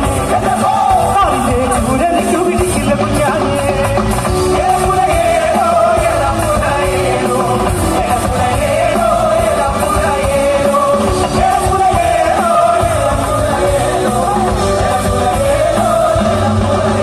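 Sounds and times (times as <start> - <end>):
live rock band playing: 0.0 - 17.0
man singing: 0.0 - 17.0.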